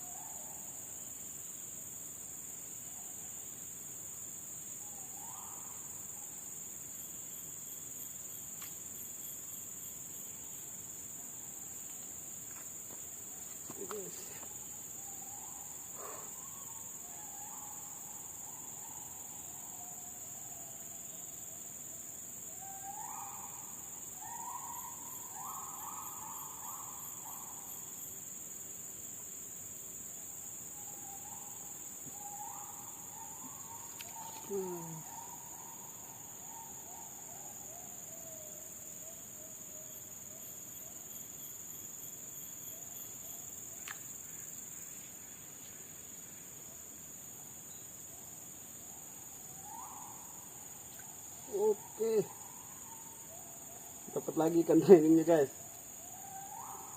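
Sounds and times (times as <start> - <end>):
forest insects chorus: 0.0 - 56.9.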